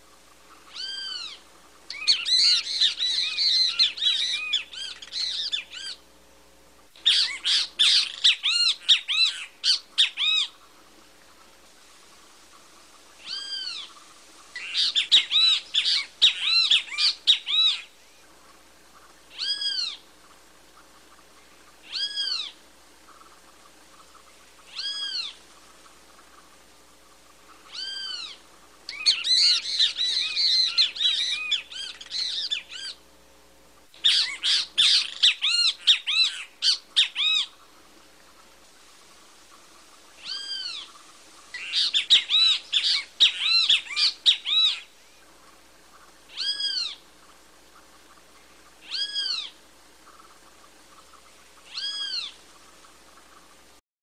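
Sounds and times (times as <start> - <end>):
bird calling: 0.0 - 6.1, 7.0 - 33.1, 33.8 - 53.7.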